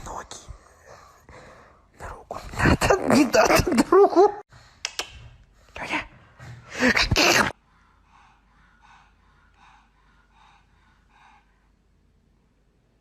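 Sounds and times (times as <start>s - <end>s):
faint rhythmic breathing puffs: 0.0s - 2.8s, 4.4s - 13.0s.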